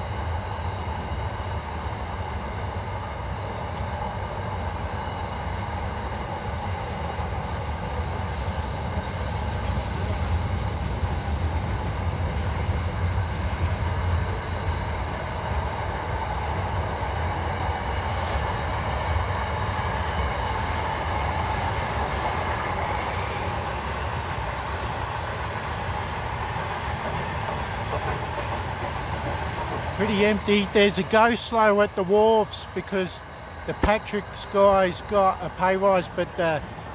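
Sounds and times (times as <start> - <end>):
train wheels rumbling on rail: 0.0 - 36.9.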